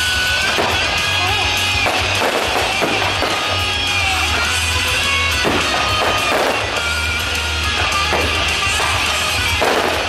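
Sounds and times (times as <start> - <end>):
loud music with guitar: 0.0 - 10.0.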